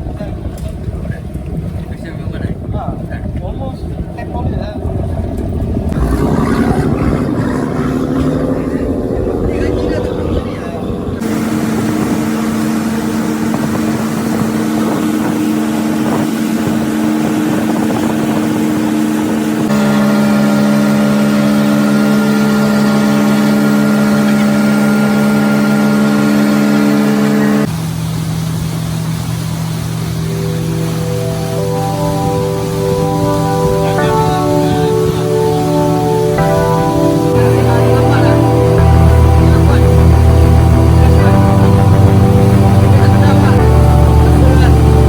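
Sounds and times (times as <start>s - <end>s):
boat engine running: 0.0s - 45.0s.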